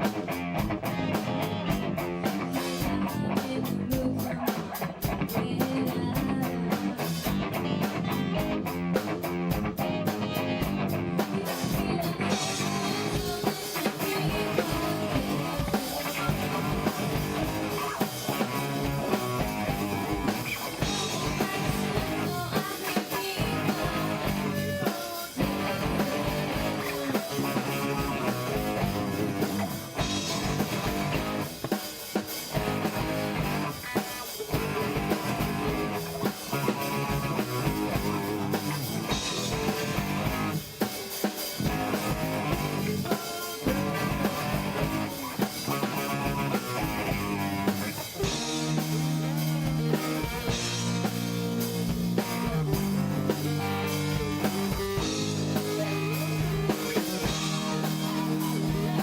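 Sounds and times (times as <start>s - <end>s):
bass guitar: 0.0s - 59.0s
drum kit: 0.0s - 59.0s
guitar: 0.0s - 59.0s.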